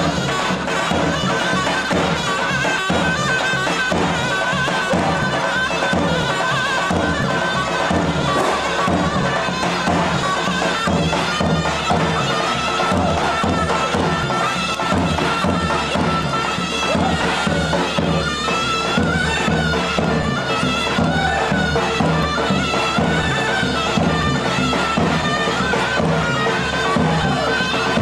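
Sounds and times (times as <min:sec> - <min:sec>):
reedy wind instrument melody: 0:00.0 - 0:28.0.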